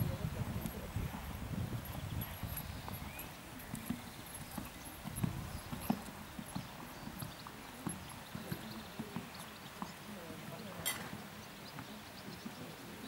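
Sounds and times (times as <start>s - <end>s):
hoofbeats on sand: 0.0s - 13.0s.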